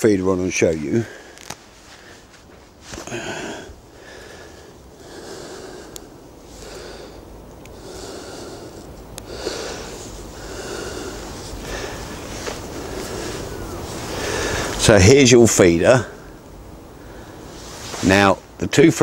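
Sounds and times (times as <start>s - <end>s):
man breathing through nose: 1.0s - 14.8s, 16.2s - 18.0s.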